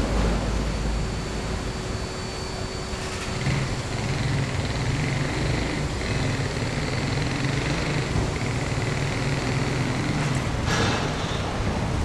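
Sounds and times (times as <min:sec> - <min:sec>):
car wash motor hum: 0:00.0 - 0:12.0.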